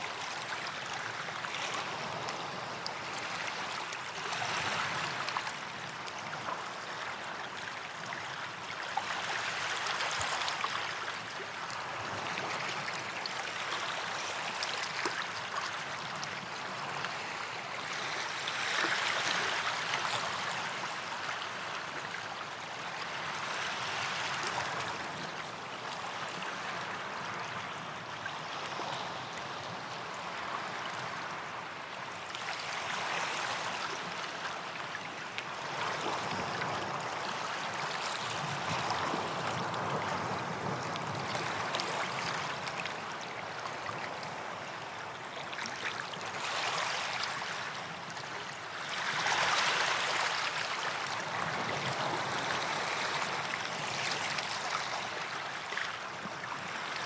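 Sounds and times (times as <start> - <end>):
small waves washing onto sand: 0.0 - 57.0.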